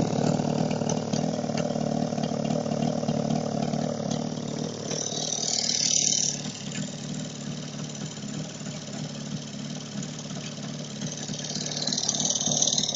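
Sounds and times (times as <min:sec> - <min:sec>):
two-stroke motorcycle engine idling: 0:00.0 - 0:12.9.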